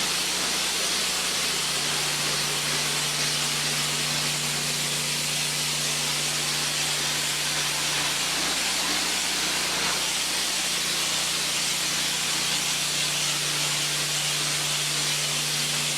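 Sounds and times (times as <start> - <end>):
pressure washer water spray hissing: 0.0 - 15.9.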